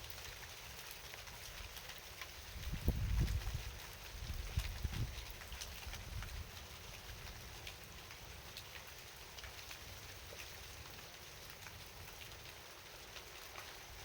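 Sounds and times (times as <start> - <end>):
raindrops ticking: 0.0 - 14.0.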